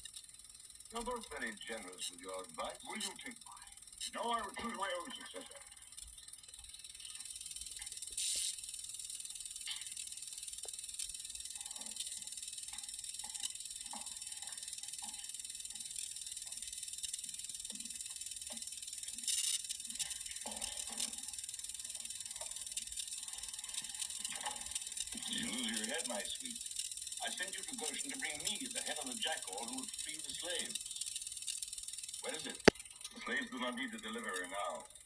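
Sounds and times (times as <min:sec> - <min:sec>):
film soundtrack hiss: 0:00.0 - 0:35.0.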